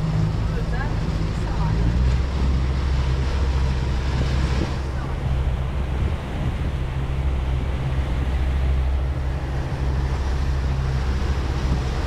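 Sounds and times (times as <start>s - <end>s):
boat engine droning: 0.0s - 12.0s
water rushing: 0.0s - 12.0s
wind noise: 1.0s - 12.0s.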